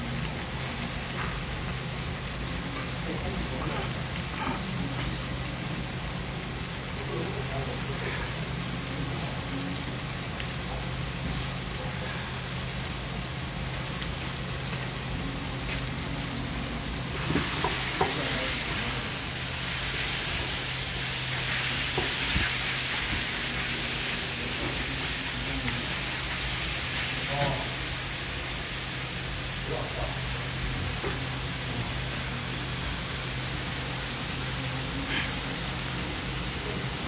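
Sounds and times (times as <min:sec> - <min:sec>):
food sizzling on griddle: 0:00.0 - 0:37.0.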